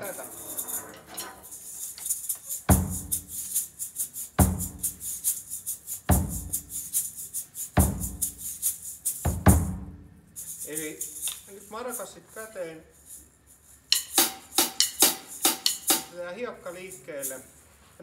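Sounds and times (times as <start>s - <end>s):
maraca rattling: 0.0s - 18.0s.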